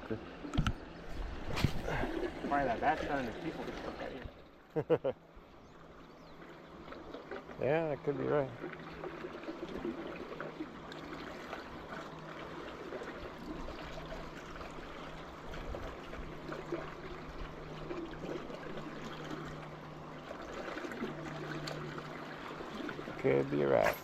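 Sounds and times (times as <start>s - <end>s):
creek water trickling: 0.0s - 24.0s.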